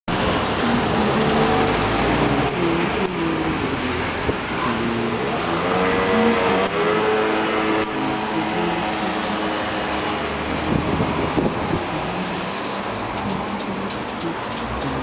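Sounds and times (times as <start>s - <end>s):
car engines passing: 0.1s - 15.0s.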